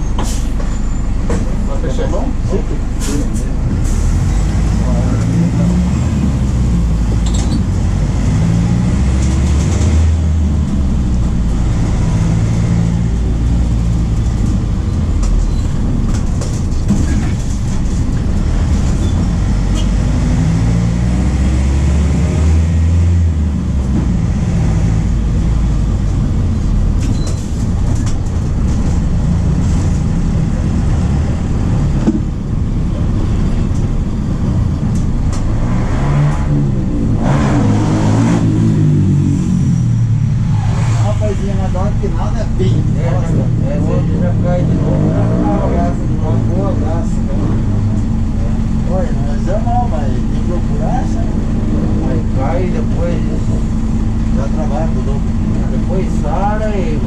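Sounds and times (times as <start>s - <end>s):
bus diesel engine pulling under load: 0.0s - 57.0s.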